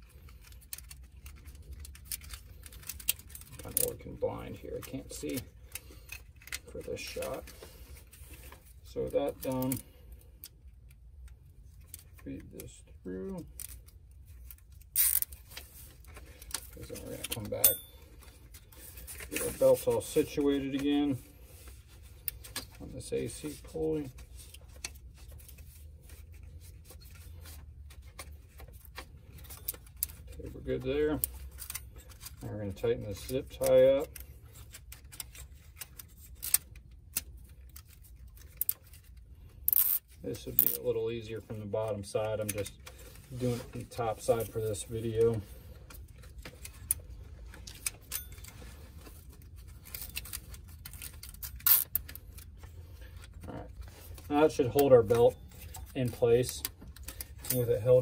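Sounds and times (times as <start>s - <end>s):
belt handling: 0.0s - 58.0s
low steady hum: 0.0s - 58.0s
rubbing and light clicks: 0.0s - 58.0s.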